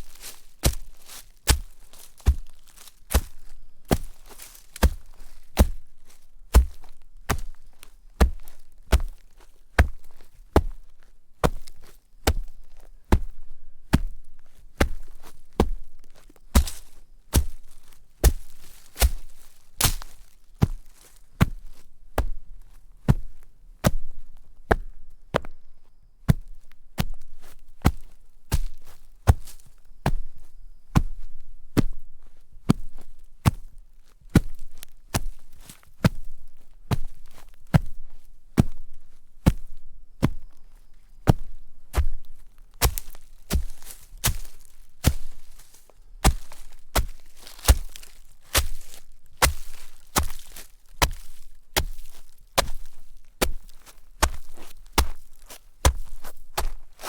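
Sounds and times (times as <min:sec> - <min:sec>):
footsteps crunching in snow: 0:00.0 - 0:57.0.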